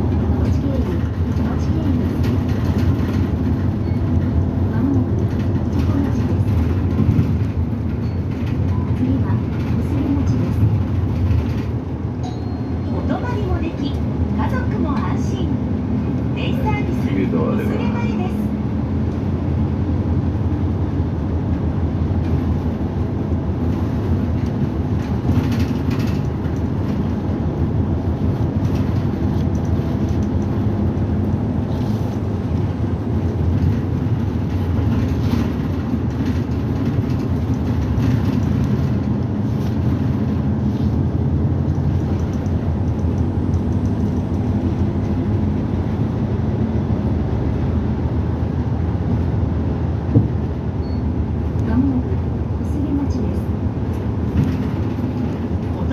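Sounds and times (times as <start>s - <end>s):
bus engine running: 0.0s - 55.9s.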